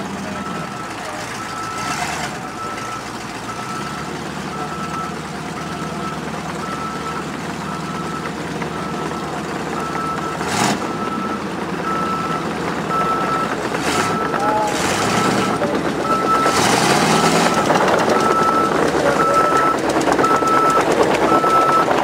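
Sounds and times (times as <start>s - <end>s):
reversing alarm beeping: 0.0s - 22.0s
vehicle engine running: 0.0s - 22.0s.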